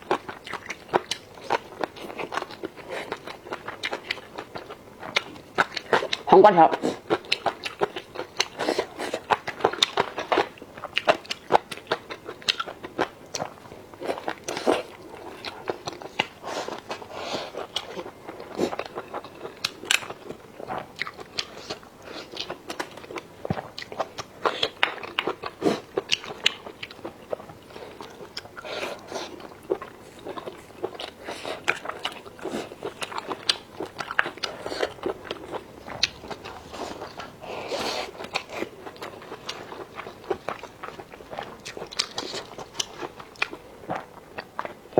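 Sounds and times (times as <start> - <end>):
person crunching food: 0.0 - 44.8
person chewing: 0.0 - 44.9.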